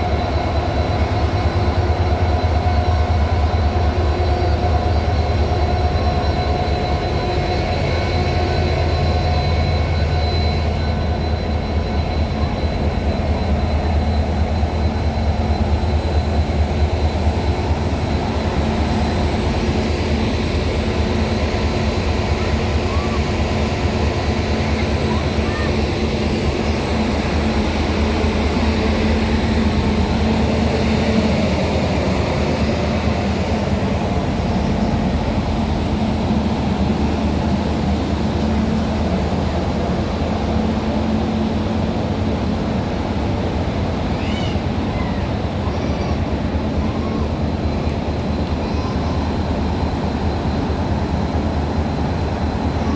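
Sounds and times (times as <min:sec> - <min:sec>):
locomotives whirring and humming: 0:00.0 - 0:52.9.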